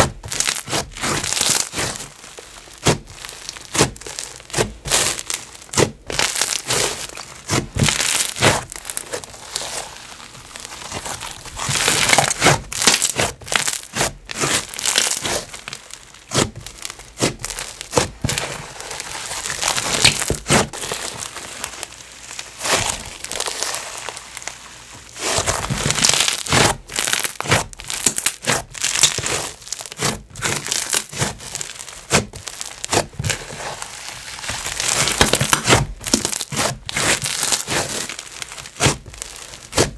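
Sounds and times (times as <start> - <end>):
slime squished by hand crackling: 0.0 - 39.9.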